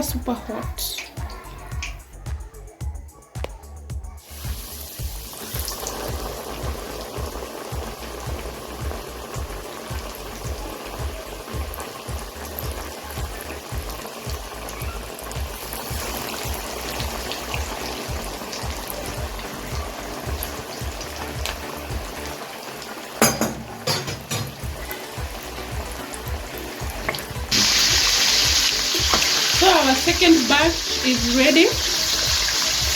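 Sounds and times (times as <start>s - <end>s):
music with pulsing beat: 1.0s - 22.5s, 24.4s - 32.9s
deep-frying in hot oil: 4.2s - 32.9s.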